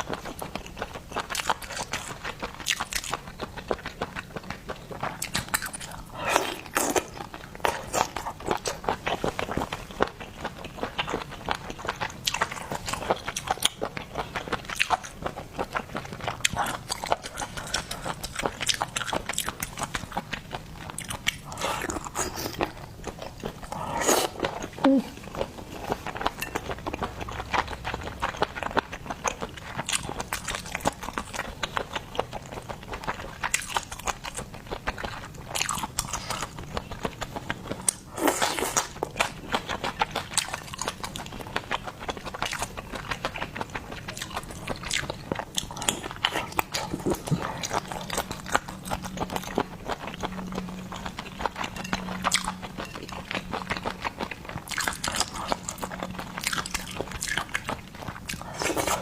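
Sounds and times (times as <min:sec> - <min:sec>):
wet chewing and mouth clicks: 0:00.0 - 0:59.0.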